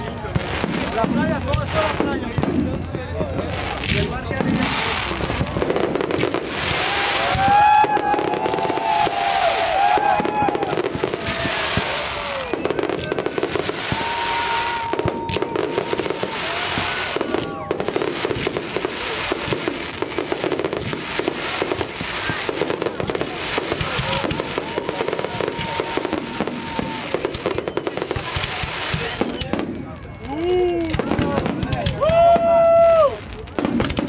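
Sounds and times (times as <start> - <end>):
fireworks bursting: 0.0 - 34.0
fireworks crackling and popping: 0.0 - 34.0
whistling fireworks: 0.0 - 34.0.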